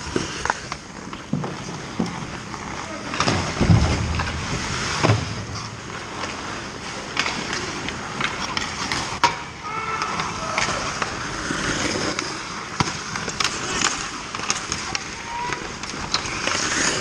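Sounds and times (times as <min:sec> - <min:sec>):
hockey sticks and puck clacking: 0:00.0 - 0:17.0
skate blades scraping on ice: 0:00.0 - 0:17.0.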